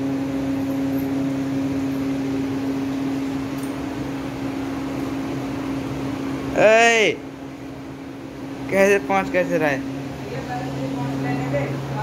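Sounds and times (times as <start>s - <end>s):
appliance motor hum: 0.0s - 12.0s.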